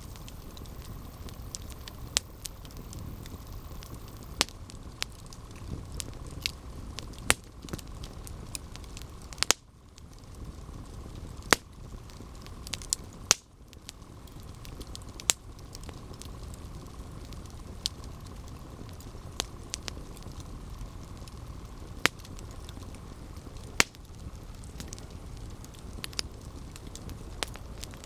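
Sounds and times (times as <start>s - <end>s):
low rumble of flames: 0.0s - 28.0s
wood crackling and popping: 0.0s - 28.0s.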